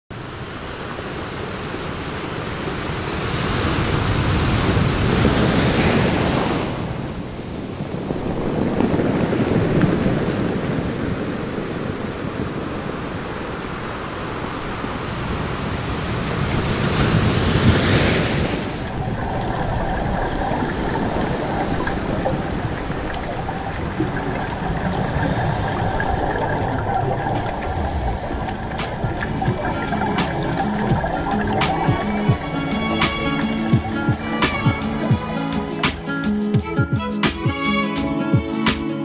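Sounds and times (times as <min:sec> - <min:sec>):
sea water sloshing and lapping: 0:00.6 - 0:35.5
wind on microphone: 0:01.3 - 0:35.4.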